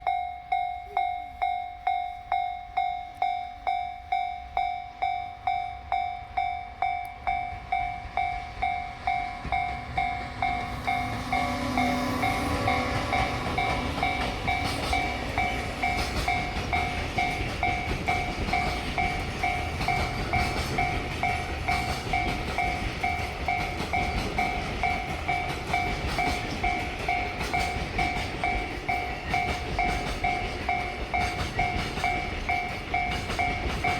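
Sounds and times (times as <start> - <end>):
level crossing bell ringing: 0.0 - 33.9
train wheels clacking on rails: 3.2 - 33.9.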